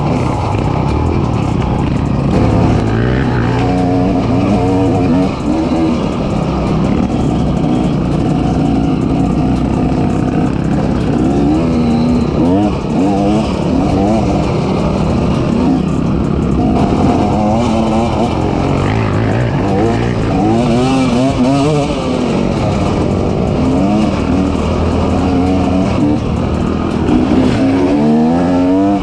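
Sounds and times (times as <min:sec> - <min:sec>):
off-road vehicle engine: 0:00.0 - 0:29.0.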